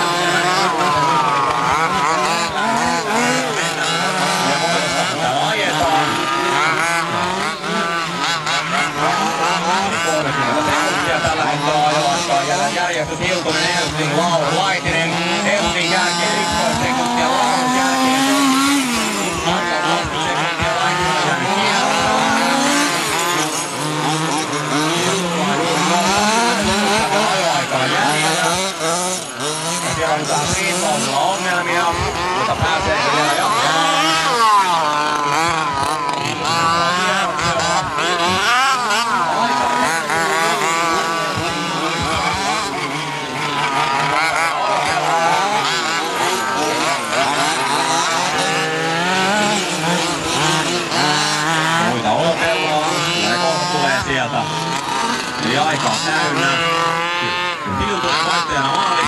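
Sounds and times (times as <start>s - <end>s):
nitro engines screaming at high revs: 0.0s - 59.0s.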